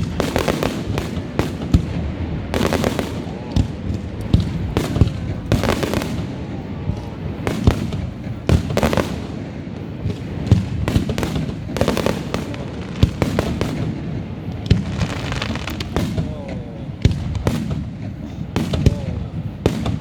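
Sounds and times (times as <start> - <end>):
fireworks bangs and booms: 0.0 - 20.0
fireworks crackling: 0.0 - 20.0.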